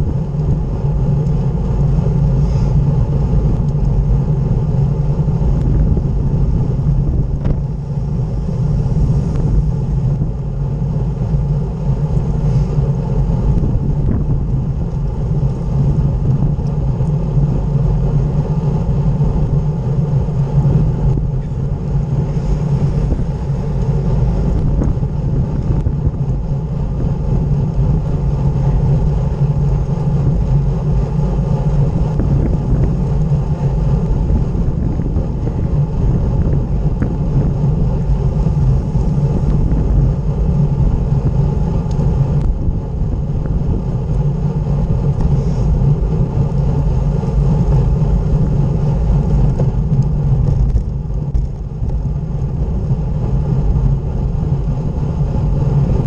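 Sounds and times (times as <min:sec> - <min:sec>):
bike tyres rolling on road: 0:00.0 - 0:56.0
wind rumble on microphone: 0:00.0 - 0:56.0.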